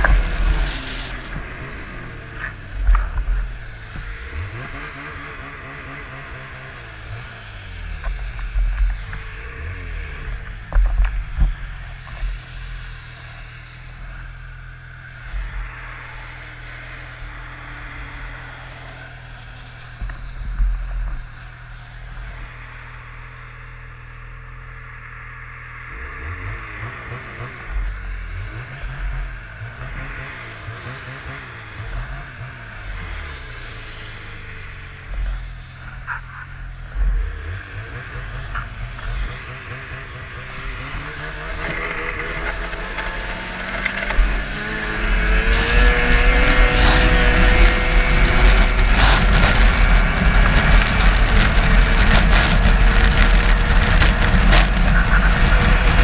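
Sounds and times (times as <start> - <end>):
race car engine revving: 0.0 - 24.0, 25.7 - 56.0.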